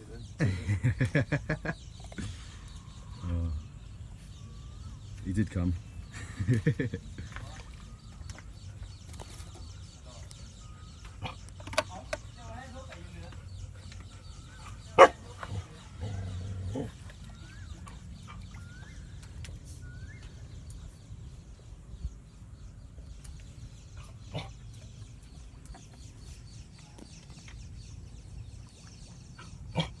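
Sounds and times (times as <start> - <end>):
bird calls: 0.0 - 30.0.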